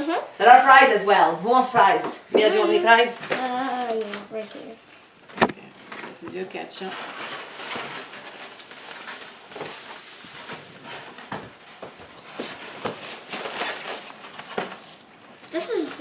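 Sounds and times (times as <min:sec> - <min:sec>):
food packaging rustling: 0:02.8 - 0:16.0.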